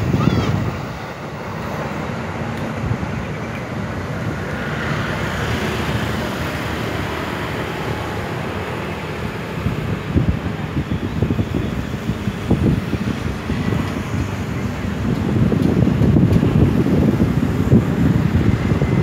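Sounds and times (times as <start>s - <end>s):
electric train rumbling on tracks: 0.0s - 19.0s
traffic hum: 0.0s - 19.0s.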